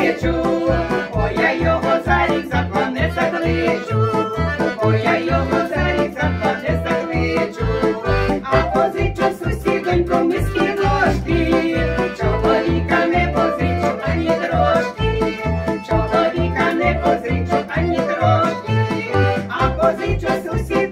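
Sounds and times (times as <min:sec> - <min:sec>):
accordion playing folk tune: 0:00.0 - 0:20.9.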